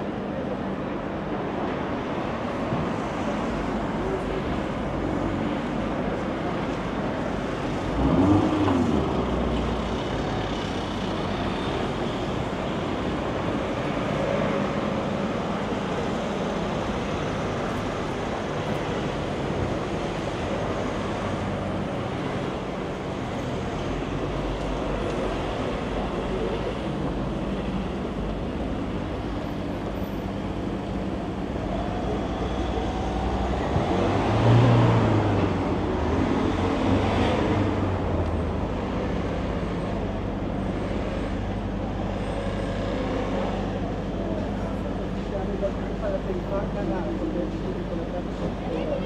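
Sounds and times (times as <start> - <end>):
cars passing: 1.8 - 49.0.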